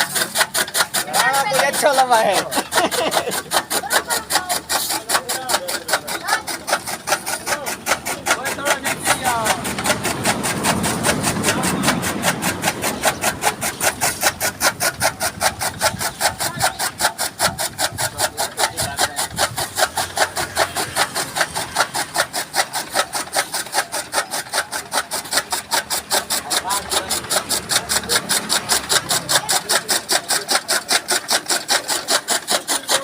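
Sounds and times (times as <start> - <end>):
chaff cutter blades chopping stalks: 0.0 - 33.0.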